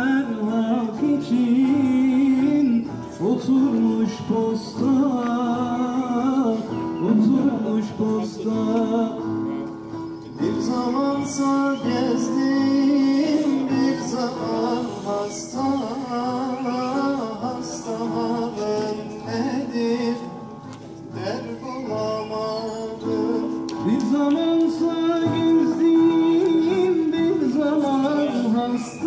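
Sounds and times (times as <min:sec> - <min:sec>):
person singing into a microphone: 0:00.0 - 0:09.7, 0:10.4 - 0:29.0
acoustic guitar: 0:00.0 - 0:29.0.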